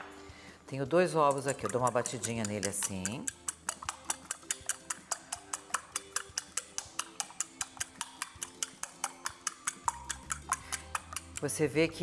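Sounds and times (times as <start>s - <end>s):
fork beating eggs in ceramic bowl: 1.1s - 12.0s.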